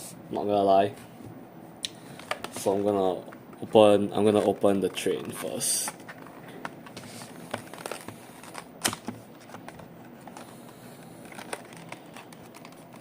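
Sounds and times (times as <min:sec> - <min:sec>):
packaging rustling: 0:02.1 - 0:13.0.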